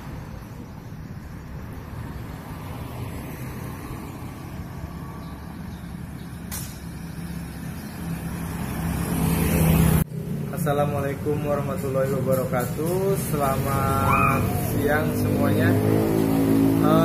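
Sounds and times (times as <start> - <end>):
low road noise: 0.0 - 17.0
small motorcycles approaching: 2.2 - 17.0.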